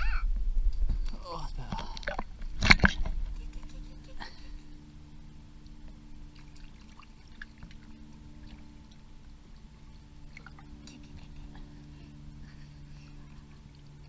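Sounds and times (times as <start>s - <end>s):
steady low hum: 0.0s - 14.0s
muffled water sloshing and lapping: 0.7s - 14.0s
small splashes: 1.7s - 14.0s.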